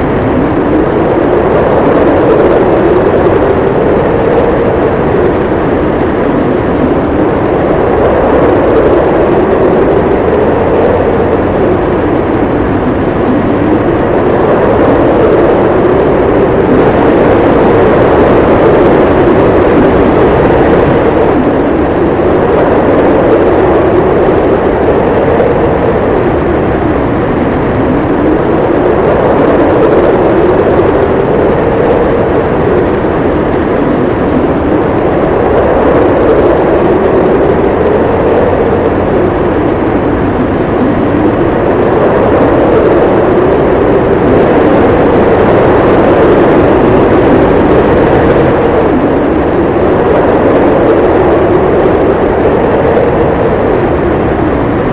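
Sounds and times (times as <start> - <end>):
howling wind: 0.0 - 54.9.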